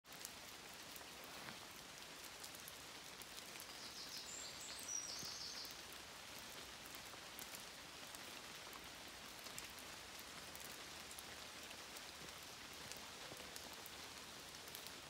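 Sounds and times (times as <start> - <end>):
light rain on leaves and gravel: 0.0 - 15.0.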